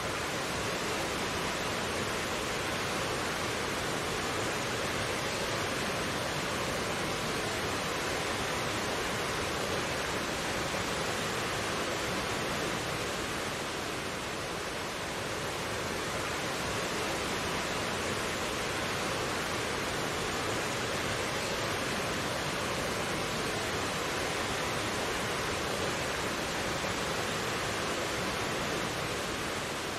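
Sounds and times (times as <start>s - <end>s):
stream rushing over rocks: 0.0s - 29.9s.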